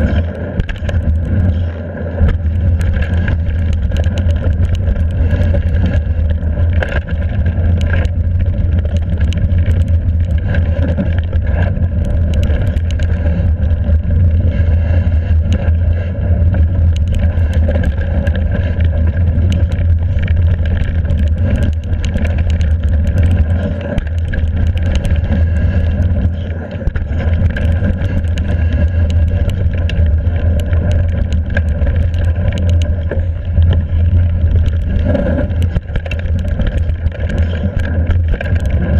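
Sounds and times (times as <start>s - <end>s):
bike rattling and clattering: 0.0s - 38.9s
tyres rumbling on rocky trail: 0.0s - 38.9s.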